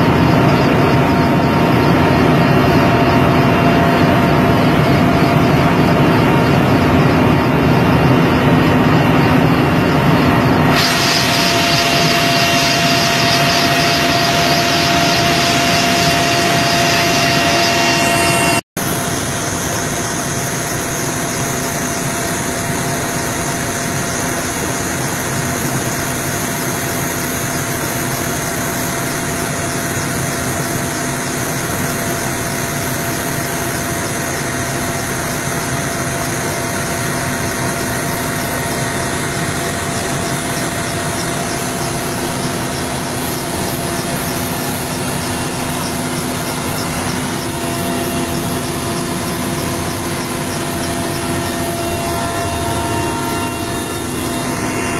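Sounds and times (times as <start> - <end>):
helicopter engine whine and rotor: 0.0 - 54.9.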